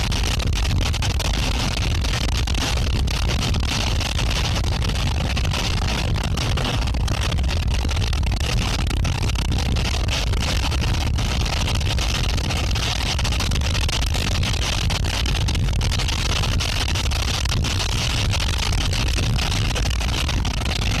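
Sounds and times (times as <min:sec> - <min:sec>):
deep low rumble: 0:00.0 - 0:21.0.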